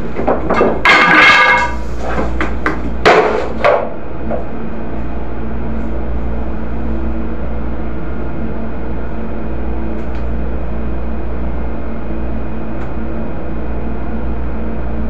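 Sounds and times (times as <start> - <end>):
ship machinery drone: 0.0 - 15.0.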